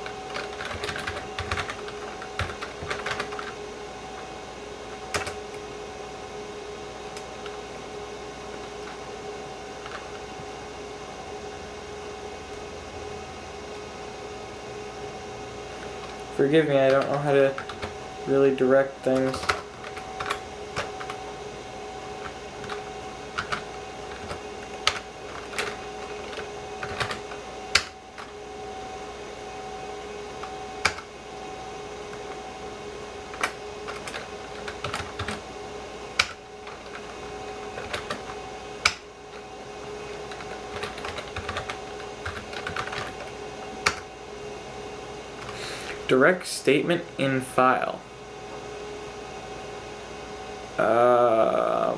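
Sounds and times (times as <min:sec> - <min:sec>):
two-tone hum: 0:00.0 - 0:51.9.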